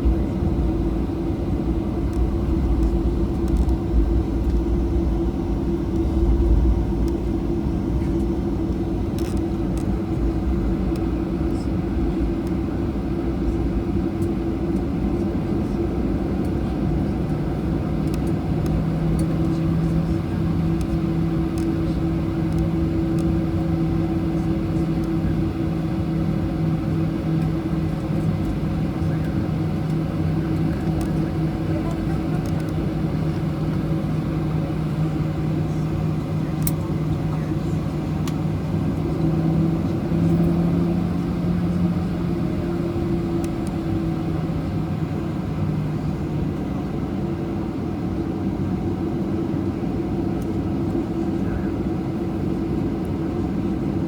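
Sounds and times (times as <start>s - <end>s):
idling jet engines hum: 0.0s - 54.0s.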